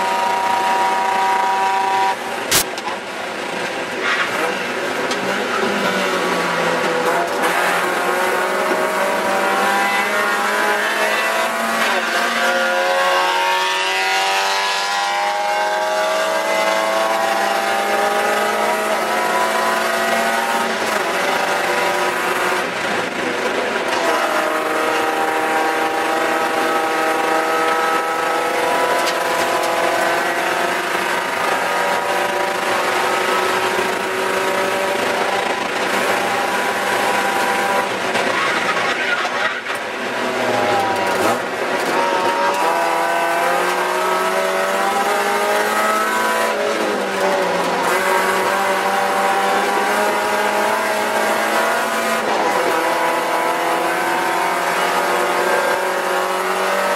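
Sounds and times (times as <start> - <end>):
race car engine at high revs: 0.0 - 56.9.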